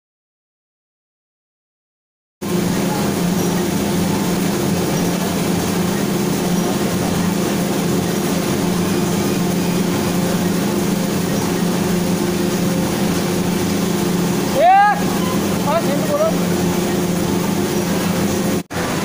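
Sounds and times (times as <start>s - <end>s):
constant low hum: 2.4s - 19.0s
continuous machine noise: 2.4s - 19.0s.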